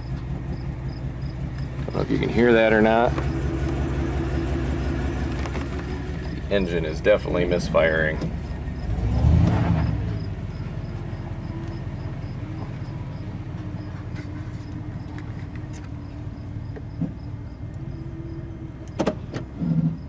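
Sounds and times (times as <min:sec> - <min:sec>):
engine idling rough: 0:00.0 - 0:20.0.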